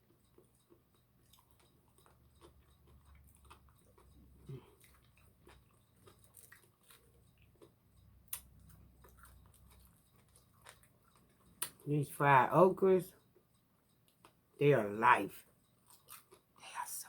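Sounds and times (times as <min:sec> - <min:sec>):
chewing crunchy fried food: 0:00.0 - 0:14.6, 0:15.3 - 0:17.0.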